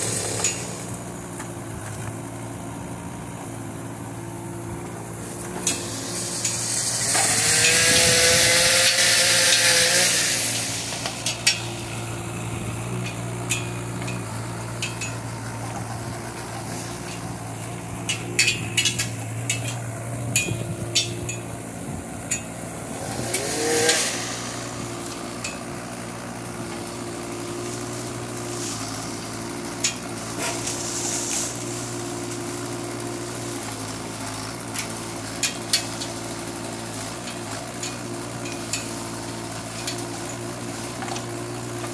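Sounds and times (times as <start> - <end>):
hydraulic whine and hiss: 0.0 - 34.9
excavator diesel engine running: 0.0 - 41.9.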